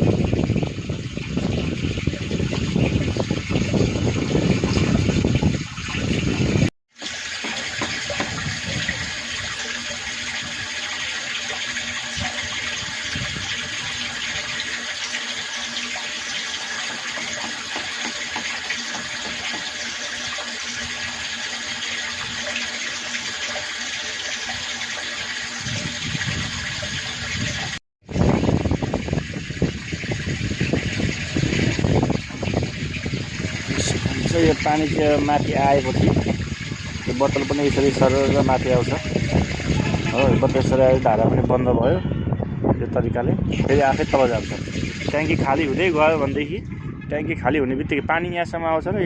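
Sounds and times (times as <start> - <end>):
water running into a tank: 0.0 - 41.9, 43.4 - 49.0.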